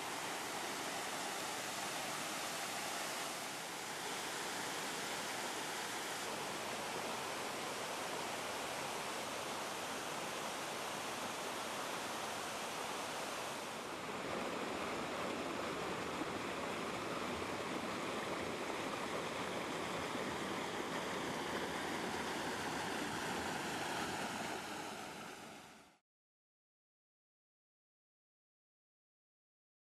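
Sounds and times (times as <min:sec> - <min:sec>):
water rushing over rocks: 0:00.0 - 0:25.8.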